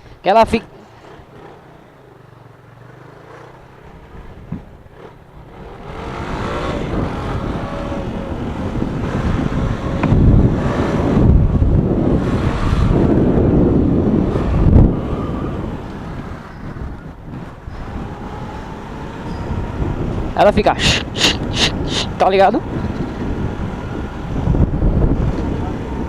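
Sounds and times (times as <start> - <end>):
wind buffeting microphone: 3.7 - 26.0.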